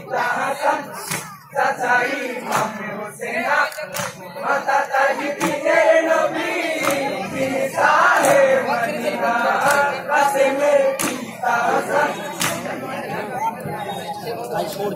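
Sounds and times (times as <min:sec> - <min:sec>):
men chanting and singing: 0:00.0 - 0:14.9.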